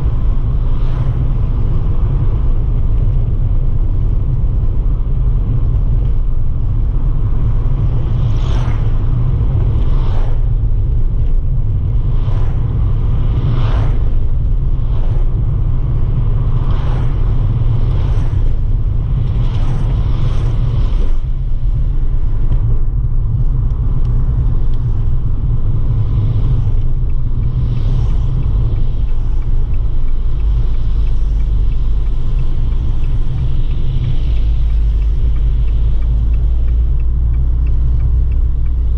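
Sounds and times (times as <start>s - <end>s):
car engine rumbling: 0.0s - 38.9s
road noise: 0.0s - 38.9s.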